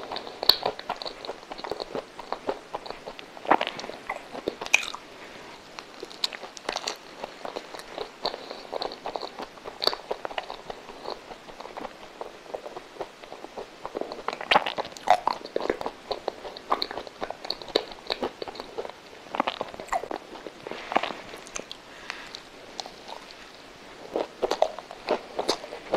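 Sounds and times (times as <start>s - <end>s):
person chewing with mouth clicks: 0.0s - 25.9s.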